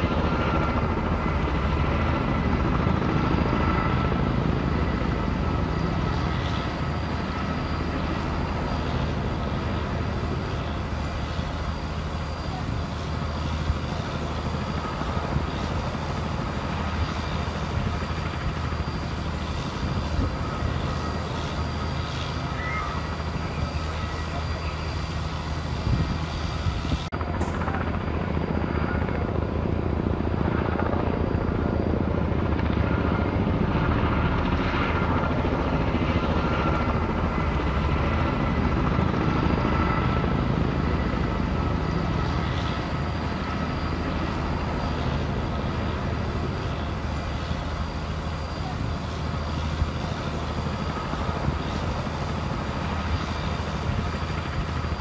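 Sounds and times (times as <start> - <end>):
helicopter flying over: 0.0 - 55.0.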